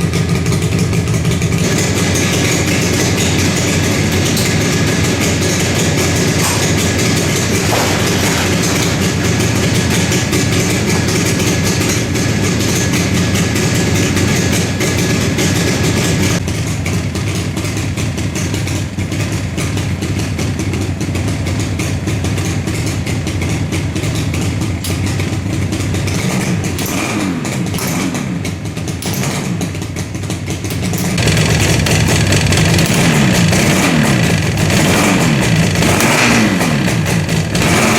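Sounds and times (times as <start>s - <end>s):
two-stroke motorcycle engine: 0.0s - 37.9s.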